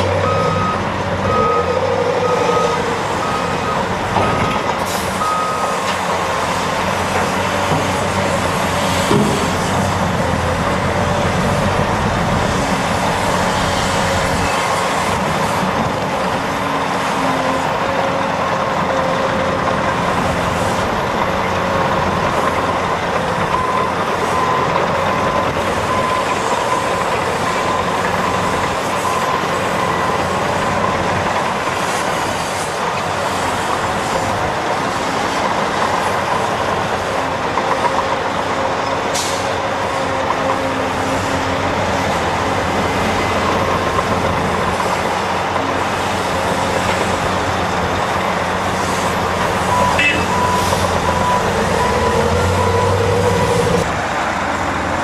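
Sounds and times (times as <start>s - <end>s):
excavator engine and hydraulics: 0.0s - 55.0s.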